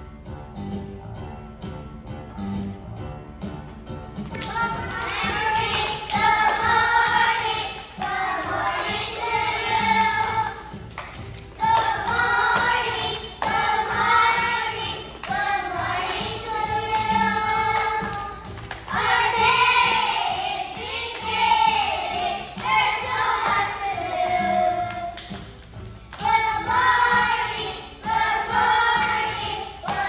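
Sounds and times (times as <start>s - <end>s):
music: 0.0s - 30.0s
young children singing: 4.4s - 25.4s, 26.2s - 30.0s.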